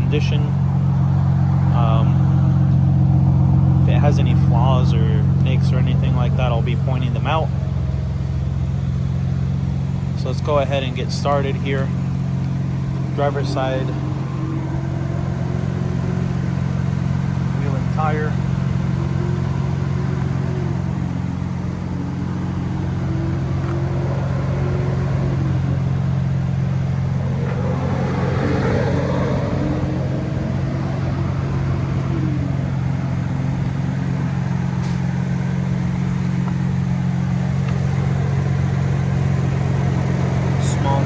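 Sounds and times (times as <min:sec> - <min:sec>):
low mechanical hum: 0:00.0 - 0:41.0
wavering faint tones: 0:00.0 - 0:41.0.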